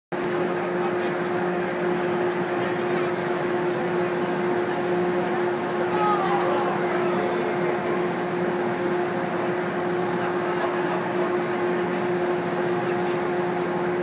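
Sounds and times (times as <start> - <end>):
fan hum: 0.2 - 14.0.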